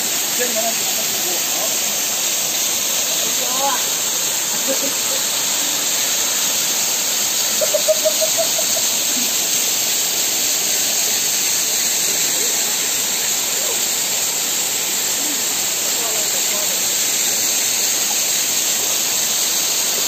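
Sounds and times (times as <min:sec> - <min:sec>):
water rushing over rock: 0:00.0 - 0:20.0.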